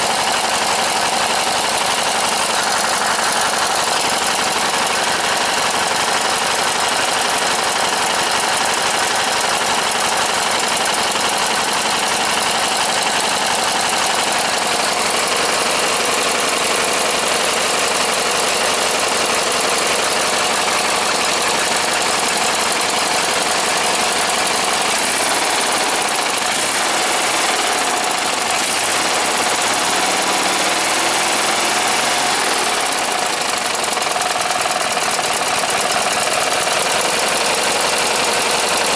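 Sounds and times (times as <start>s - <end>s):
riding mower engine running: 0.0s - 38.9s.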